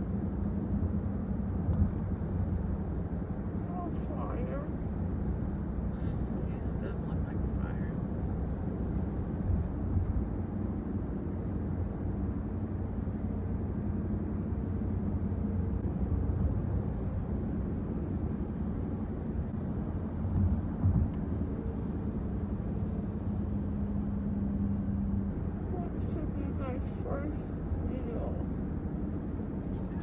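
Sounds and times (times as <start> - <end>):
car cabin road and engine drone: 0.0 - 30.0.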